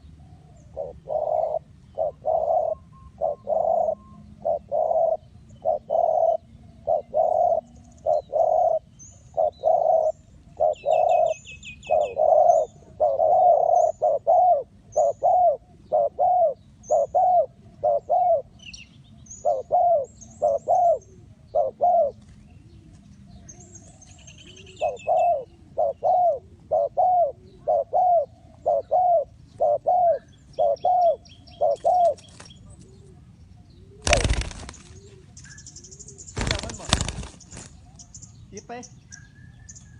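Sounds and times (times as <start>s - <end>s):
dove cooing: 0.0s - 18.6s, 19.4s - 38.1s
small birds chirping: 0.0s - 39.9s.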